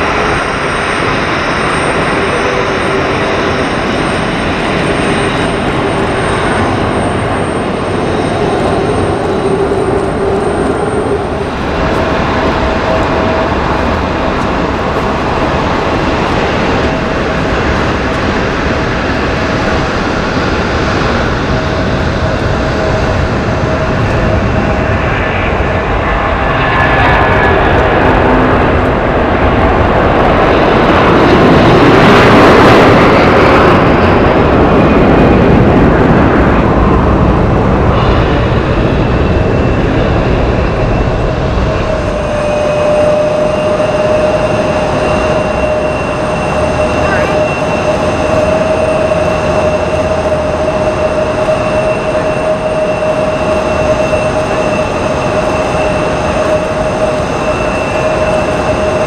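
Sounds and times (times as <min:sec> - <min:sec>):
jet engines at takeoff power: 0:00.0 - 0:59.0
jet engines with high whine: 0:00.0 - 0:59.0.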